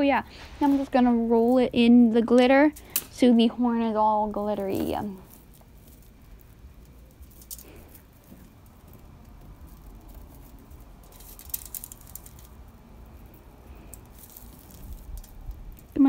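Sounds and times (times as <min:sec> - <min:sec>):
aluminium foil crinkling: 0:02.4 - 0:16.0
glitter grains pattering: 0:02.7 - 0:16.0.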